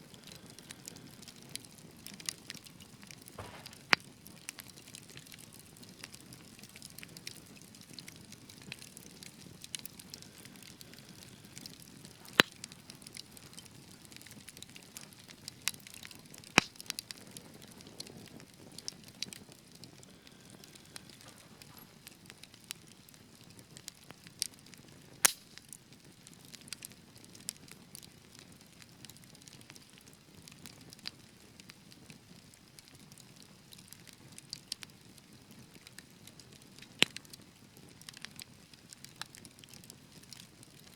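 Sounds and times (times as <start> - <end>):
fireplace fire crackling and popping: 0.0 - 40.9.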